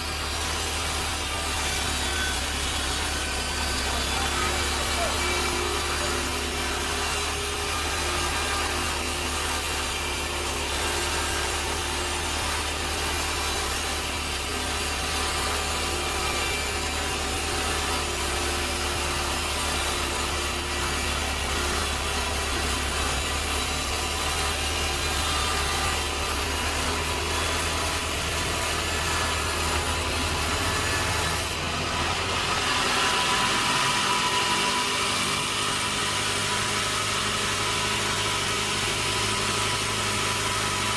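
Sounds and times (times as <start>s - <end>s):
sawmill saw cutting log: 0.0s - 40.9s.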